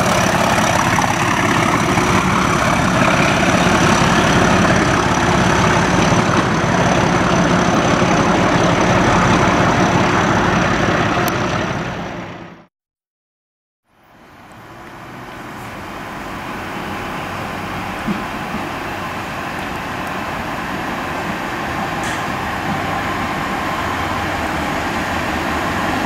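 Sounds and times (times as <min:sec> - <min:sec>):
diesel locomotive engine: 0:00.0 - 0:12.7, 0:13.9 - 0:26.0.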